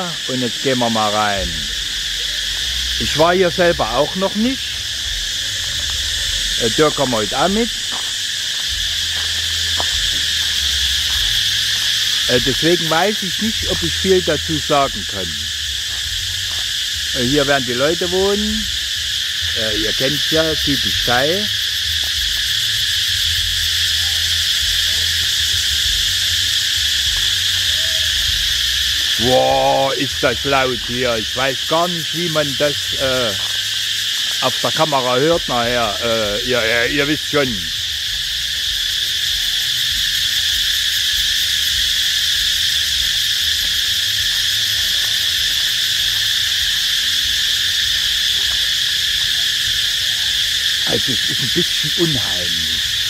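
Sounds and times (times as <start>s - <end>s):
crickets chirping: 0.0s - 53.0s
insects shrilling: 0.0s - 53.0s.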